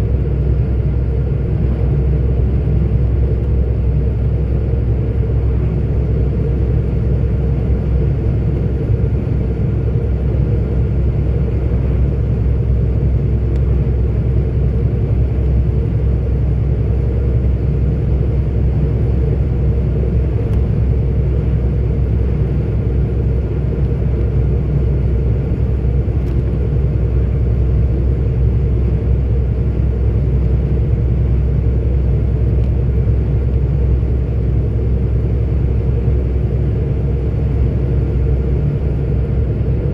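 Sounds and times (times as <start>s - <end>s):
truck engine and tyre rumble: 0.0s - 39.9s.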